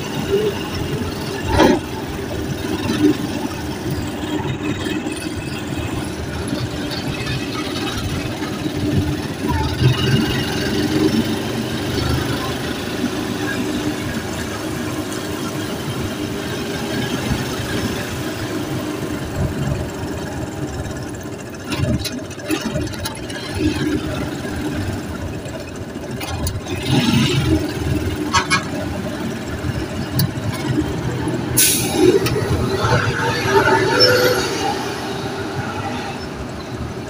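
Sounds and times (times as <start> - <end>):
low rumble of vehicle engines: 0.0 - 37.0.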